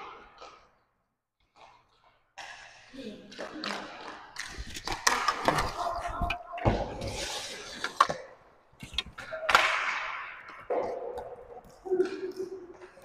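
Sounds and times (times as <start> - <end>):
hockey sticks hitting puck: 0.0 - 0.8, 1.4 - 13.0.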